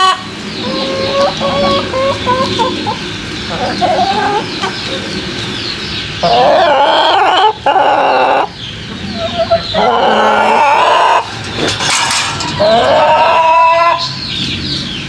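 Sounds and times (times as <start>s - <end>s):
hens cackling: 0.0s - 14.4s.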